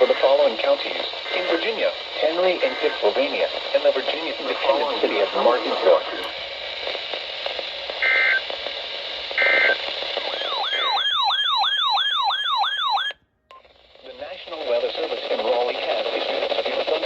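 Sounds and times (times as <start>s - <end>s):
radio hiss: 0.0s - 11.6s, 13.6s - 17.0s.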